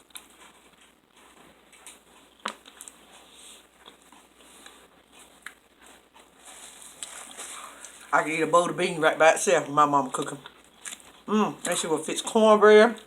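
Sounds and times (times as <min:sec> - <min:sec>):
quiet chewing: 0:00.0 - 0:08.1, 0:09.6 - 0:12.0.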